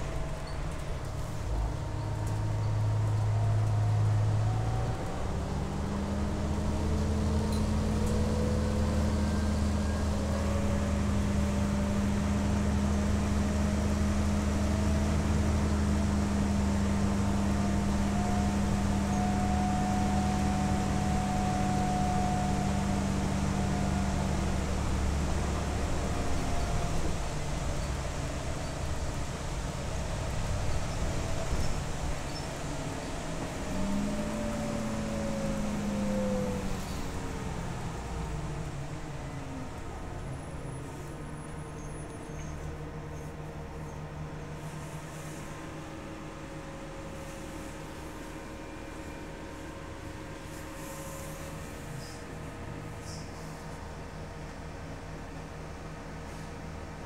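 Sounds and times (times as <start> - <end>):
faint rising whines: 0.0 - 54.2
bus drivetrain low hum: 0.0 - 57.0.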